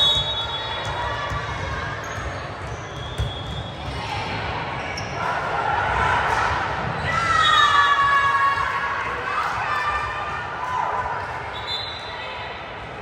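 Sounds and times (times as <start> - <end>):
crowd voices: 0.0 - 13.0.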